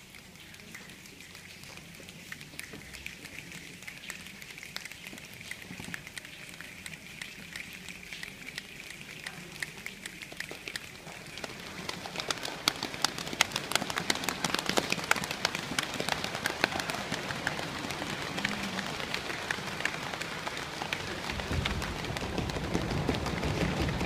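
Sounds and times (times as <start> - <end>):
audience making rain with hands: 0.0 - 24.0.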